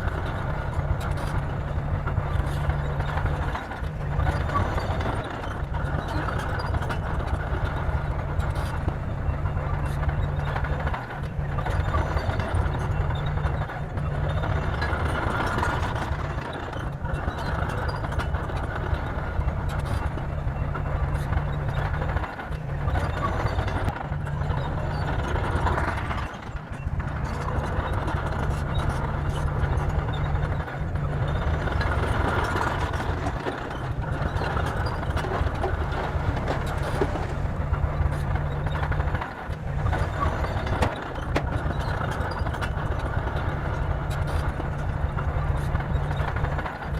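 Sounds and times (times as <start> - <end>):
bulldozer engine rumbling: 0.0 - 46.9.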